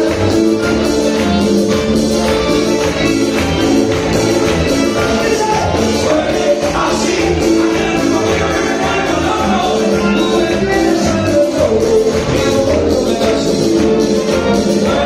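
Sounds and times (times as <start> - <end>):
accordion chords: 0.0 - 15.0
electric guitars: 0.0 - 15.0
percussion beat: 0.0 - 15.0.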